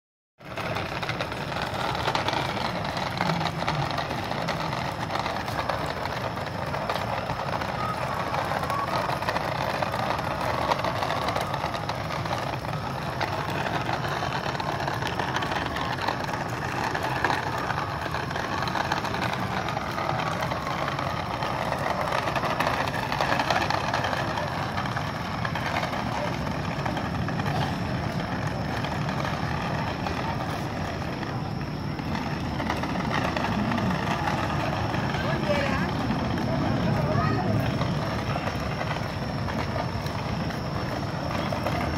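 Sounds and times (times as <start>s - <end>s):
plastic toy wheels rattling on concrete: 0.4s - 41.9s.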